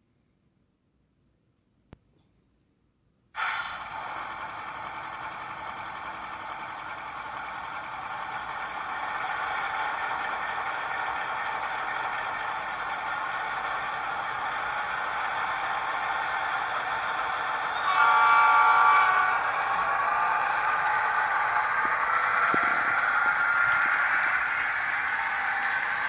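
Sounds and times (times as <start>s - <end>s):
diesel engine sound through small speaker: 3.4s - 26.0s.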